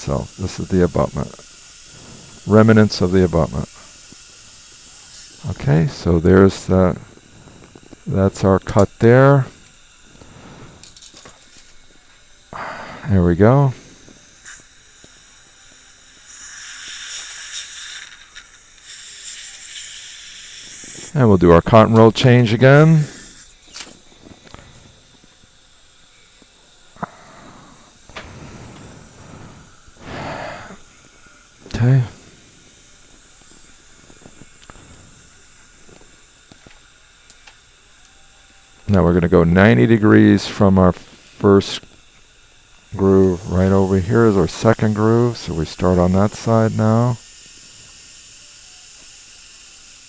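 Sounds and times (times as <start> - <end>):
dental equipment air hissing: 0.0 - 50.0.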